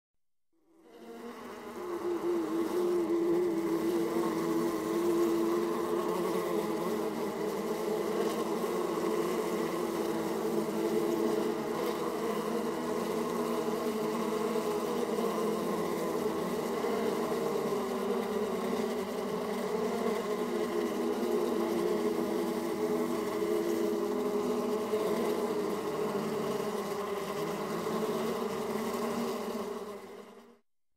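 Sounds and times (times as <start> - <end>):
bees buzzing: 0.8 - 30.4.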